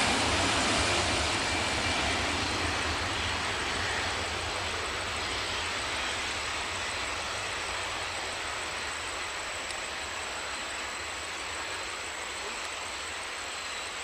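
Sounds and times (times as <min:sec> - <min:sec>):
jet engine rush with whistle: 0:00.0 - 0:14.0.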